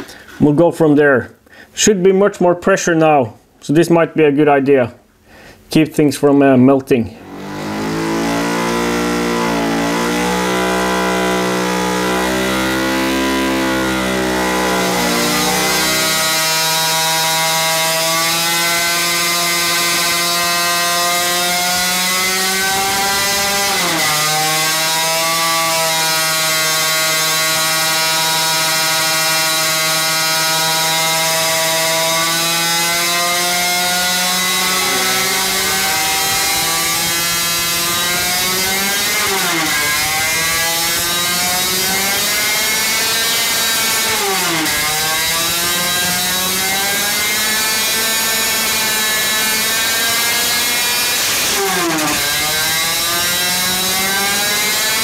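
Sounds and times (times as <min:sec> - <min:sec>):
two-stroke engine revving: 0:07.2 - 0:55.0.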